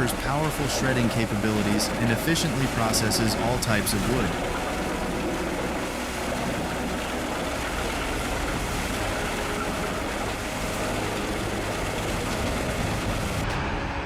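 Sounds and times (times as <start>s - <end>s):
wood chipper running: 0.0s - 13.7s.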